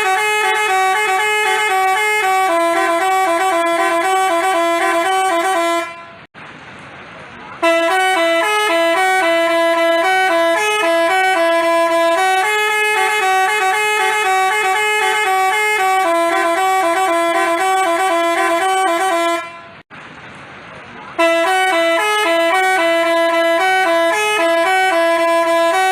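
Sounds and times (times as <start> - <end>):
multi-tone bus horn melody: 0.0 - 6.3, 7.6 - 19.9, 21.2 - 25.9.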